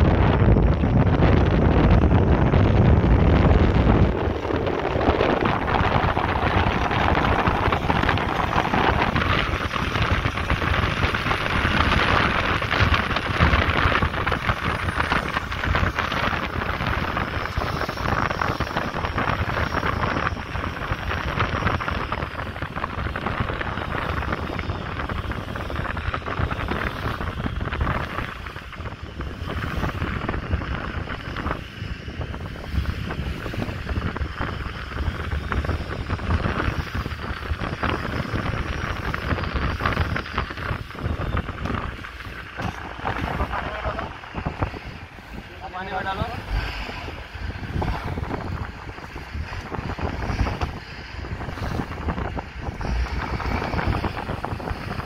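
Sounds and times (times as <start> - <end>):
boat wake churning: 0.0 - 55.0
motorboat engine running: 0.0 - 55.0
wind buffeting microphone: 0.0 - 55.0.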